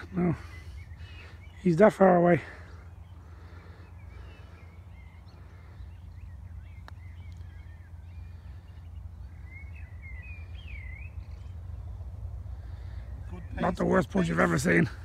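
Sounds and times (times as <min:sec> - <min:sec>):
small birds chirping and singing: 0:00.0 - 0:15.0
steady low rumble: 0:02.5 - 0:15.0.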